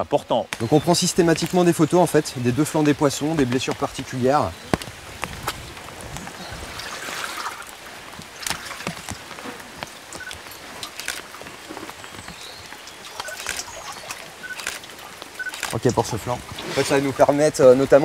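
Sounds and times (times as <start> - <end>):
water trickling and splashing: 0.0 - 18.0
rushing hiss of water: 0.3 - 18.0.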